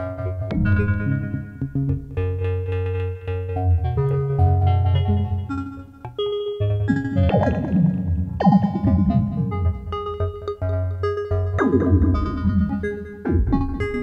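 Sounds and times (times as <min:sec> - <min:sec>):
synthesizer plucked notes: 0:00.0 - 0:14.0
steady synth bass: 0:00.5 - 0:05.6, 0:06.8 - 0:14.0.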